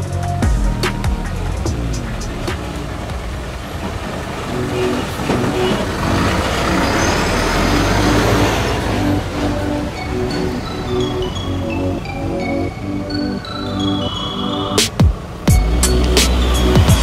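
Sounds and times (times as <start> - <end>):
truck engine driving past: 0.0 - 17.0.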